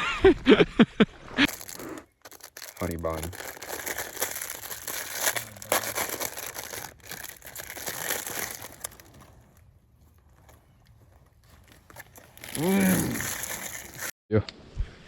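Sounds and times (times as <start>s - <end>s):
plastic wrapper crinkling and tearing: 1.4s - 14.1s.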